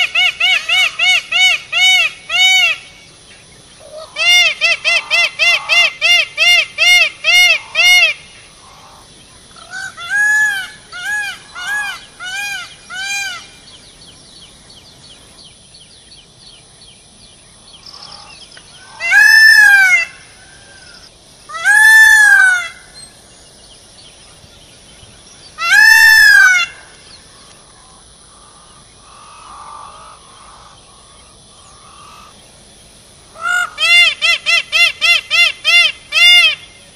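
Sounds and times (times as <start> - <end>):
peacock calling: 0.0 - 15.4, 17.8 - 23.3, 24.3 - 32.5, 33.2 - 36.9.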